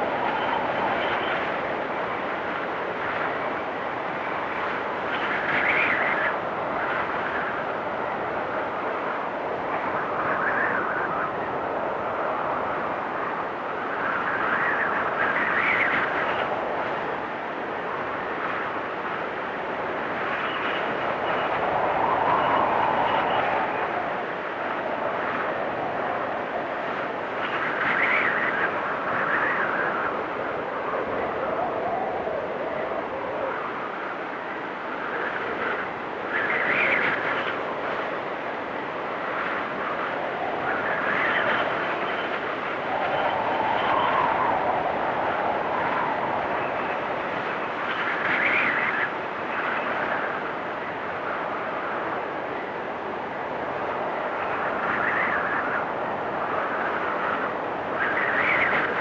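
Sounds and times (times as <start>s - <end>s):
blizzard wind blowing: 0.0s - 59.0s
whistling wind gust: 0.0s - 59.0s.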